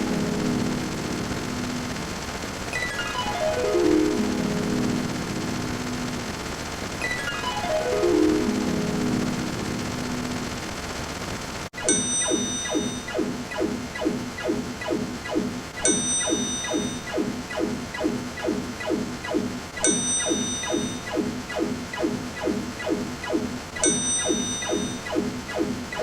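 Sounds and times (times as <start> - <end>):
falling electronic blips: 0.0 - 10.9, 11.8 - 26.0.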